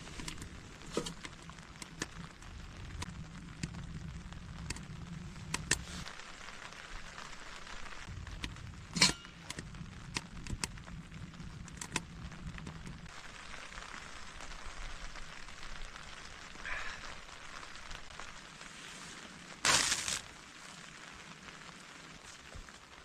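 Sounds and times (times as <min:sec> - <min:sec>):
rain hissing on a tent: 0:00.0 - 0:23.0.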